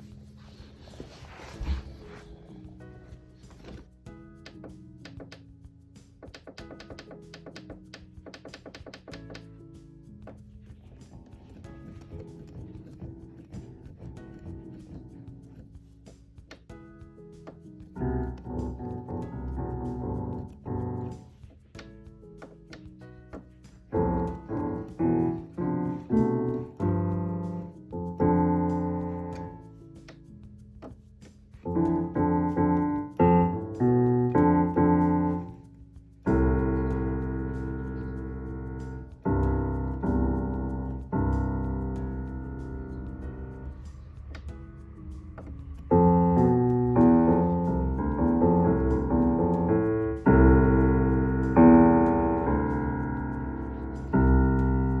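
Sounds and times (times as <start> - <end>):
soft piano notes: 0.0 - 55.0
piano chords: 6.3 - 31.0, 31.6 - 55.0.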